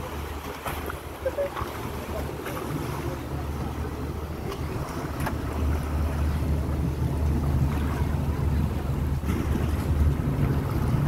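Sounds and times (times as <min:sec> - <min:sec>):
boat engine rumbling: 0:00.0 - 0:11.0
water wash: 0:00.0 - 0:11.0
wind on microphone: 0:00.0 - 0:11.0.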